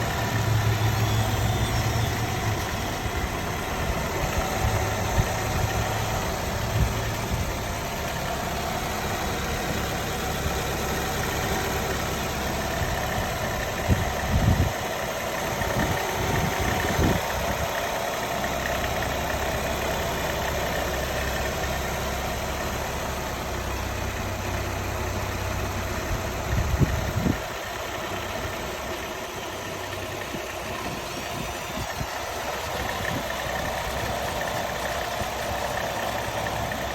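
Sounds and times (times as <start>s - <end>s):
car engine running: 0.0s - 36.9s
engine knocks: 0.0s - 36.9s
engine rattle: 0.0s - 36.9s
engine whine: 0.0s - 36.9s.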